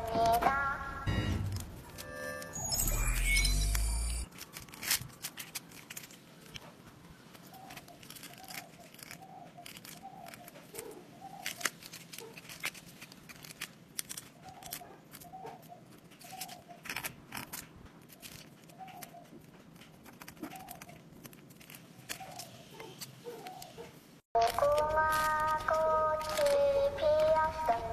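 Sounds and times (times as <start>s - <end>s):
paper liners crinkling: 3.6s - 23.7s, 24.4s - 27.9s.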